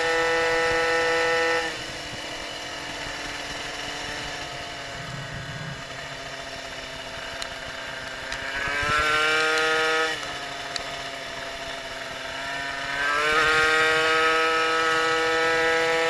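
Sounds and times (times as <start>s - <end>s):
moped engine revving: 0.0s - 16.0s.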